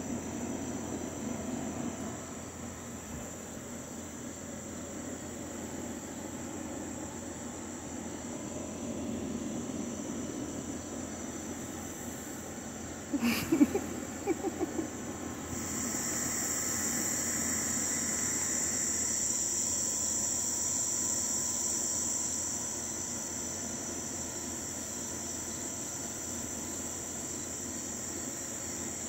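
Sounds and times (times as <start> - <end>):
night insects chorus: 0.0 - 29.0.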